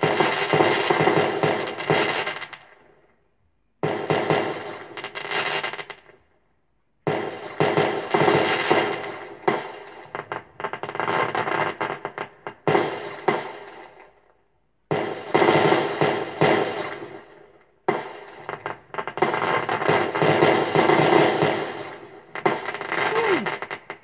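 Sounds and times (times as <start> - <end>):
crackling firework tails: 0.0 - 6.4, 7.0 - 24.0.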